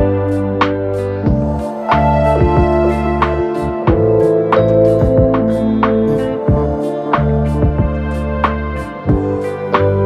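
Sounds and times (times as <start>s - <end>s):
sustained keyboard chords: 0.0s - 10.0s
steady beat: 1.2s - 10.0s.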